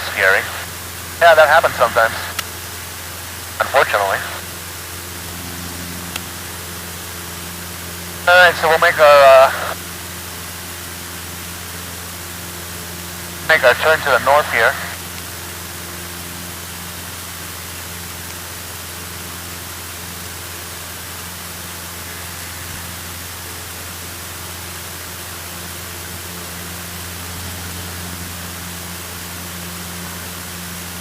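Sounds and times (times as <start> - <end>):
airplane engine droning: 0.0 - 31.0
even hiss: 0.0 - 31.0.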